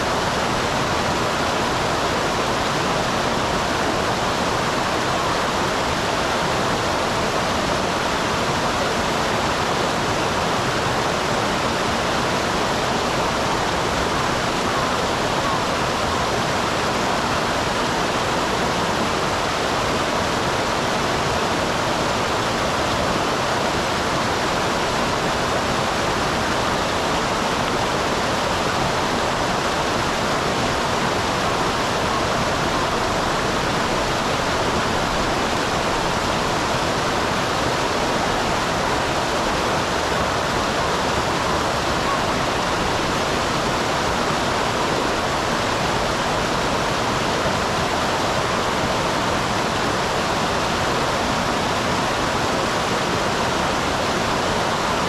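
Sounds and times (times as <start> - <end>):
waterfall pouring and splashing: 0.0 - 55.0.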